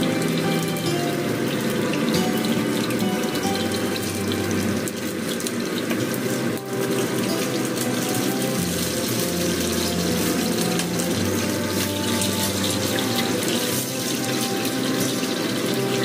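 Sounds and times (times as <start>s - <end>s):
chicken wings sizzling in oil: 0.0s - 16.0s.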